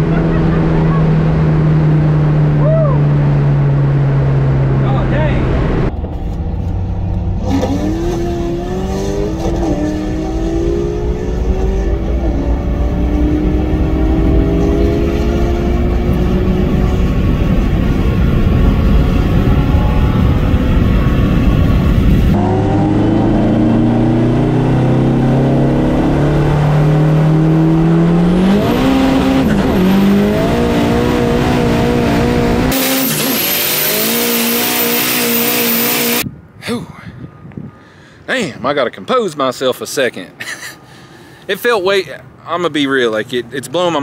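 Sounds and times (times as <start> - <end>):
racing car engines at full throttle: 0.0 - 36.2.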